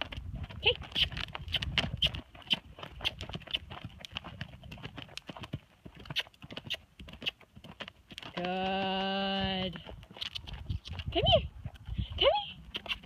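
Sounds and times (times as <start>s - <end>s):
horse hooves trotting on dirt: 0.0s - 13.0s.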